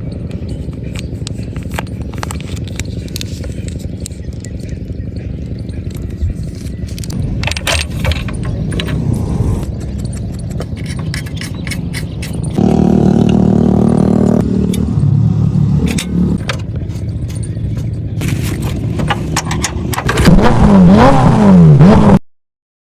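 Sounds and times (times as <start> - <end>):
car engine running: 0.0 - 22.2
car engine revving: 0.4 - 22.2.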